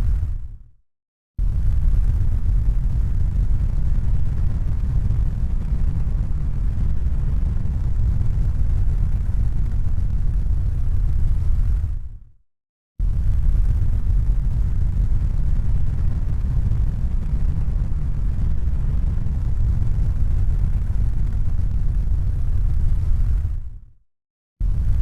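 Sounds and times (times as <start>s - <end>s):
deep rumbling noise: 1.4s - 12.0s, 13.0s - 23.8s.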